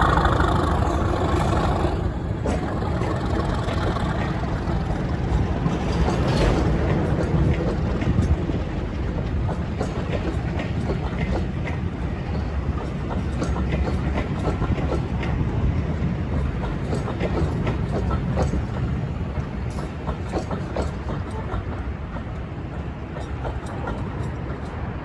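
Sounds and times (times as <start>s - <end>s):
train rumbling along track: 0.0s - 25.0s
wheels clicking over rail joints: 0.0s - 25.0s.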